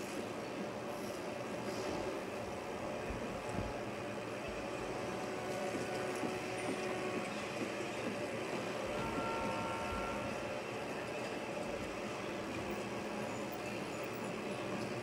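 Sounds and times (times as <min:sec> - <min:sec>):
train rumbling on rails: 0:00.0 - 0:15.0
faint steady tones: 0:02.4 - 0:15.0.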